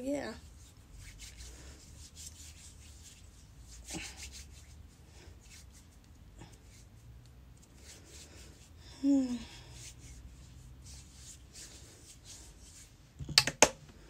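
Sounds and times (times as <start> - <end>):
hands rubbing together: 0.4 - 8.8, 9.7 - 13.0.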